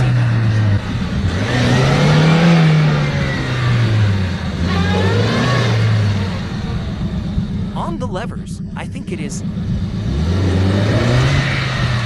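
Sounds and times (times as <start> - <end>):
car engine revving hard: 0.0 - 7.7, 8.9 - 12.0.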